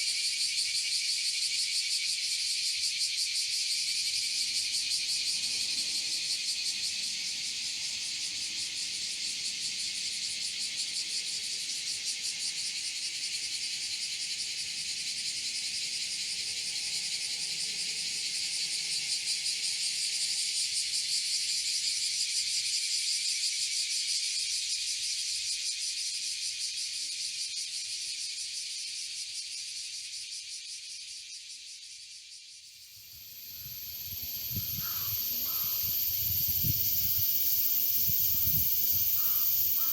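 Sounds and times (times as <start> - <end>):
insects buzzing chorus: 0.0 - 31.7, 32.8 - 39.9.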